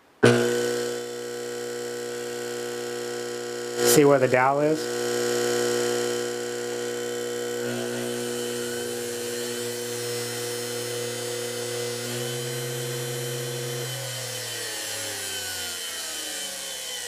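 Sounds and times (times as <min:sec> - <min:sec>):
electrical hum: 0:00.0 - 0:16.5
motor whirring: 0:00.2 - 0:17.0.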